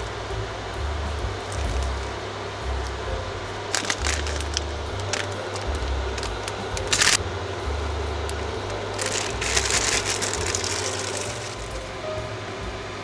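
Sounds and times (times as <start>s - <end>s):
crackling hiss: 0.0s - 13.0s.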